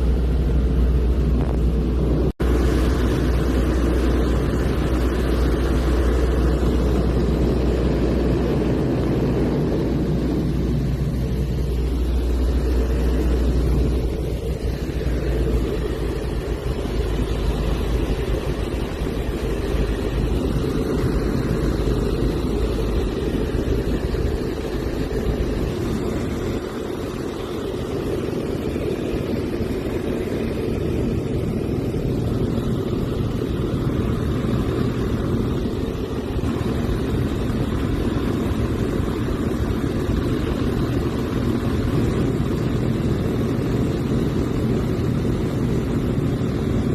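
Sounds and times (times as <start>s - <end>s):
propeller airplane engine drone: 0.0s - 46.9s.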